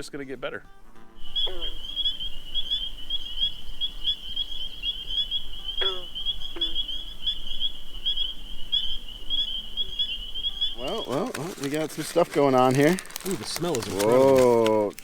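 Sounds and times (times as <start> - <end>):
frogs peeping chorus: 1.1 - 14.4
downward-sliding frog calls: 1.2 - 14.4.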